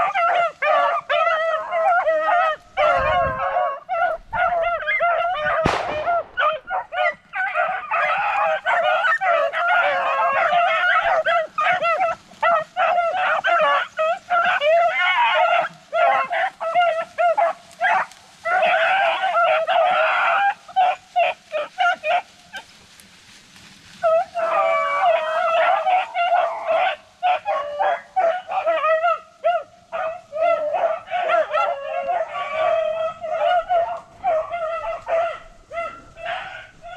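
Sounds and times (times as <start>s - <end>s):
hounds baying and yipping: 0.0s - 36.9s.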